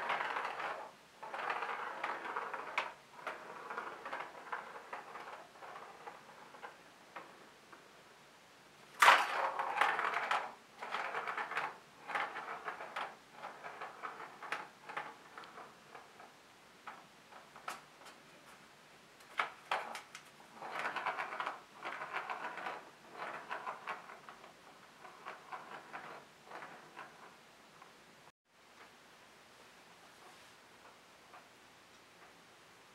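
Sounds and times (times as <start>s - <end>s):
plastic ball rolling and rattling: 0.0s - 8.0s, 8.8s - 28.0s, 30.0s - 31.6s.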